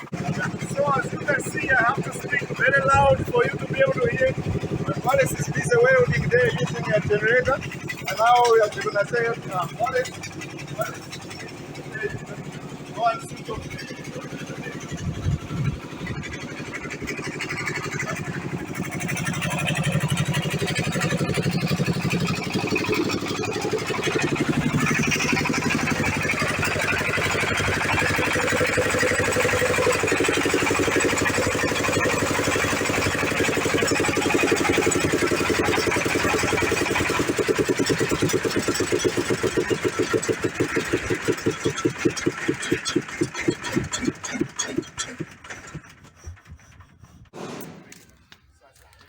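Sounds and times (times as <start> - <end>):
diesel generator running: 0.0 - 49.0.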